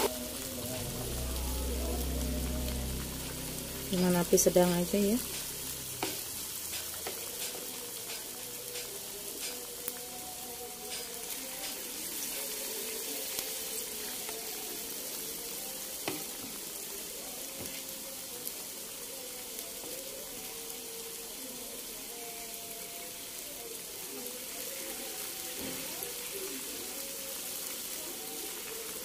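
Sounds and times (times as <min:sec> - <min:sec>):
fritters deep-frying in oil: 0:00.0 - 0:29.0.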